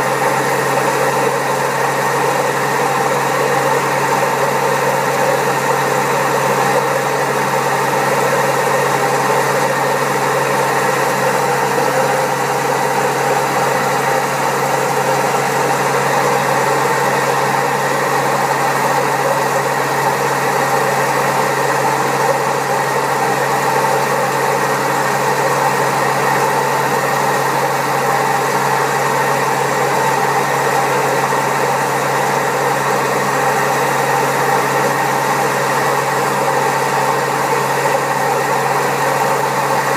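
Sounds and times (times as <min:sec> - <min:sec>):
washing machine drone and rumble: 0:00.0 - 0:39.9.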